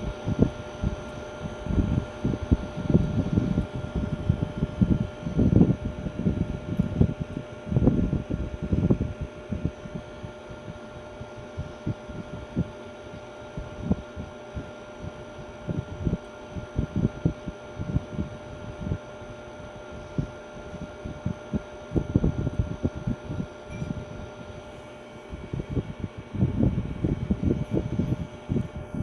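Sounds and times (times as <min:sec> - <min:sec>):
ceiling fan humming: 0:00.0 - 0:29.0.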